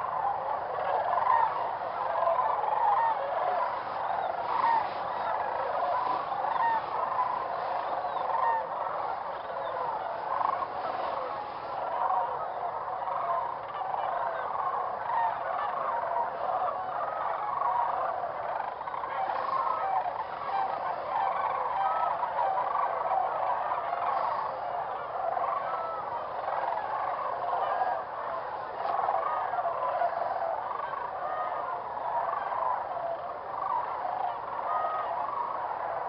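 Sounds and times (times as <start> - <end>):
geese and cranes calling: 0.0 - 36.0.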